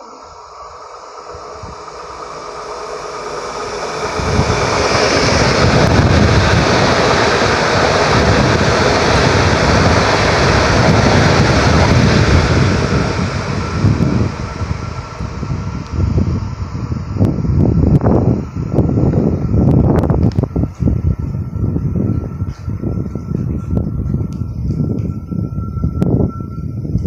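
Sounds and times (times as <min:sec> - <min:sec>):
high-speed train passing: 0:00.0 - 0:27.0
wind buffeting microphone: 0:01.2 - 0:27.0.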